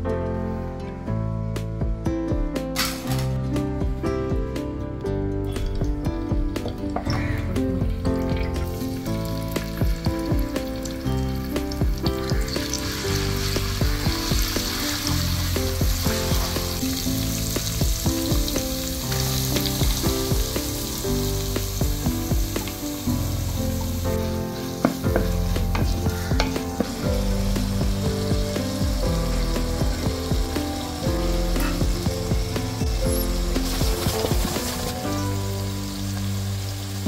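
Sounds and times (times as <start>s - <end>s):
background music: 0.0s - 37.0s
food sizzling in hot oil: 6.7s - 37.0s.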